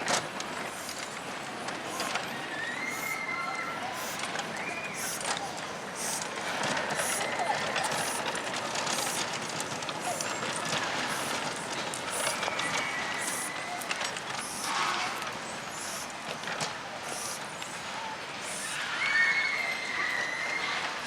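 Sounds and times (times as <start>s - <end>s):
miniature train clattering on track: 0.0s - 21.0s.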